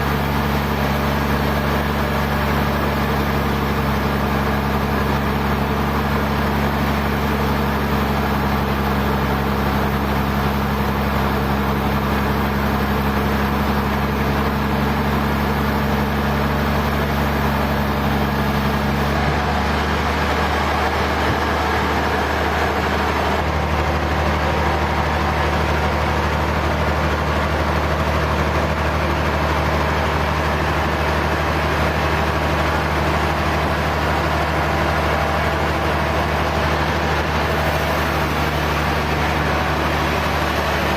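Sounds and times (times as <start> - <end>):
engine humming: 0.0 - 40.9
sawmill machinery wash: 0.0 - 40.9.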